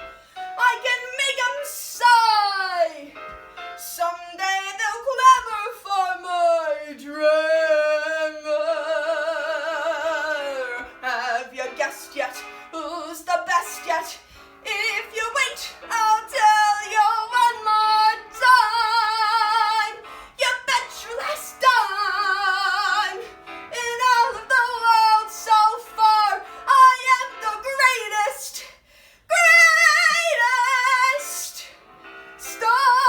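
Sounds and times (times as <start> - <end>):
woman singing show tune: 0.6 - 3.2, 3.8 - 31.8, 32.4 - 33.0.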